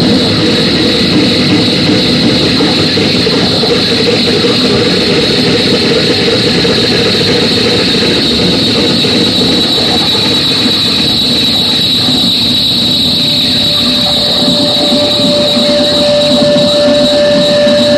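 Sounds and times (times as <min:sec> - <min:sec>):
distorted harsh noise: 0:00.0 - 0:17.9
steady high whine: 0:00.0 - 0:17.9.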